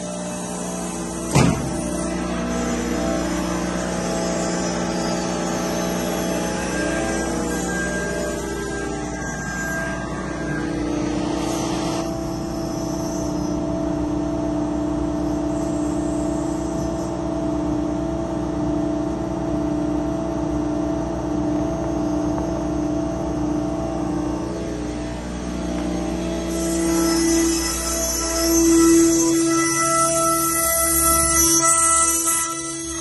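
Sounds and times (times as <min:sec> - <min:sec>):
laser machine humming: 0:00.0 - 0:33.0.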